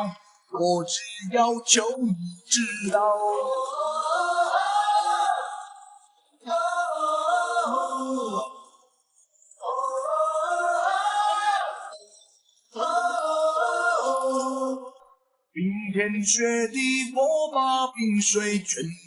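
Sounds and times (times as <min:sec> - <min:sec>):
person singing pop vocals: 0:00.0 - 0:05.8, 0:06.4 - 0:08.6, 0:09.6 - 0:12.0, 0:12.8 - 0:15.0, 0:15.6 - 0:19.0.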